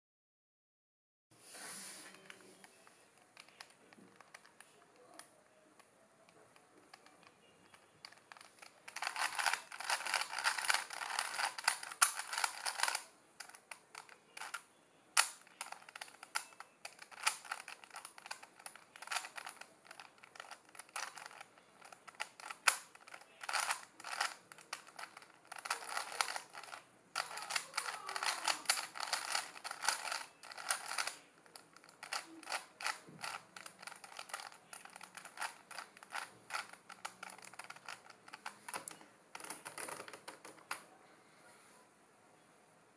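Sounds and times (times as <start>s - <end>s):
plastic puzzle cube clicking: 2.1s - 40.9s.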